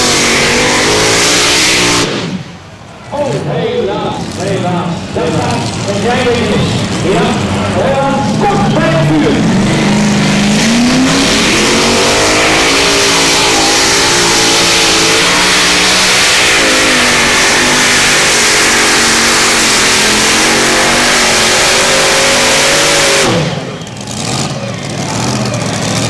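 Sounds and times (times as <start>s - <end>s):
tractor engine at full throttle: 0.0s - 26.0s.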